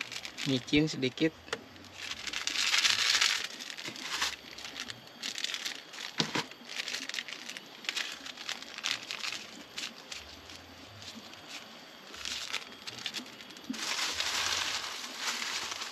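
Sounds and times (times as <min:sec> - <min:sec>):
banana leaf crinkling: 0:00.0 - 0:15.9.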